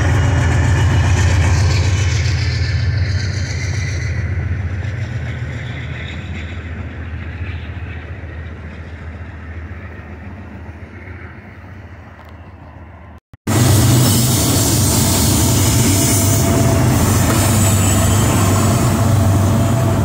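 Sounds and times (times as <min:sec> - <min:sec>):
freight train rumble and wheel noise: 0:00.0 - 0:20.0.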